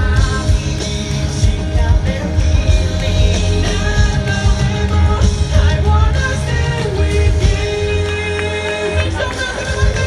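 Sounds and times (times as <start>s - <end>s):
bass guitar: 0.0s - 10.0s
drums: 0.0s - 10.0s
electric guitar: 0.0s - 10.0s
man singing: 0.0s - 10.0s.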